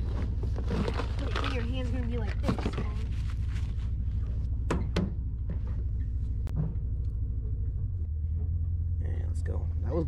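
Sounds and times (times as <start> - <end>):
pickup truck engine rumbling: 0.0 - 10.0.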